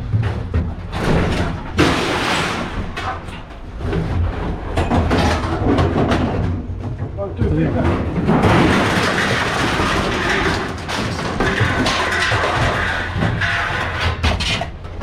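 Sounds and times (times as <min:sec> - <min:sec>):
junk knocking and clattering: 0:00.0 - 0:15.0.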